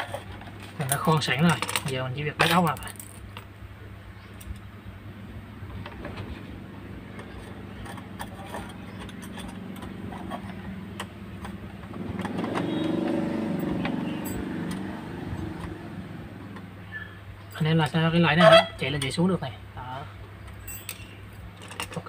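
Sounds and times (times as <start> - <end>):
steady low hum: 0.0 - 21.8
engine rumble: 0.0 - 22.0.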